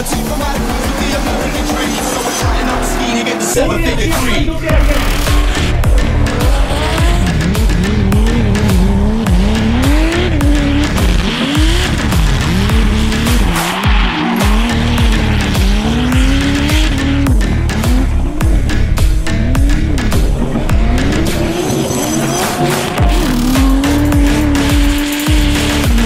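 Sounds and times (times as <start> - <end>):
car engines revving: 0.0 - 26.0
music: 0.0 - 26.0
tyres squealing: 0.0 - 26.0.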